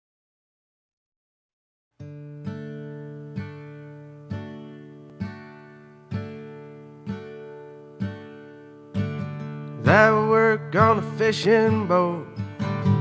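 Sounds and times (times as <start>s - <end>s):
guitar strumming chords: 2.0s - 13.0s.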